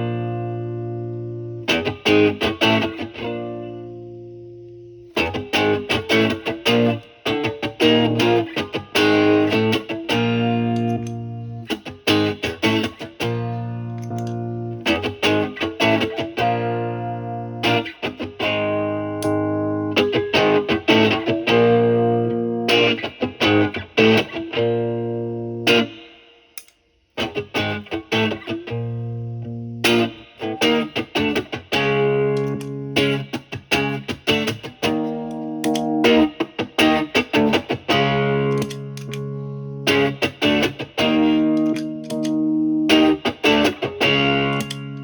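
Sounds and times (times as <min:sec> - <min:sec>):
overdriven electric guitar chords: 0:00.0 - 0:45.0.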